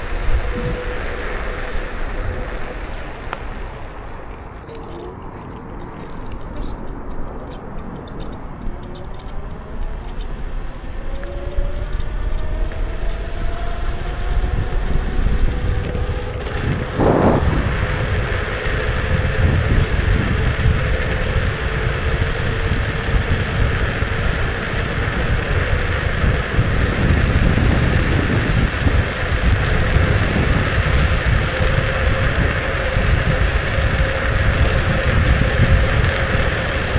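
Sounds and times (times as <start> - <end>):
electric scooter motor whine: 0.0 - 36.9
road noise: 0.0 - 36.9
wind on microphone: 0.0 - 36.9.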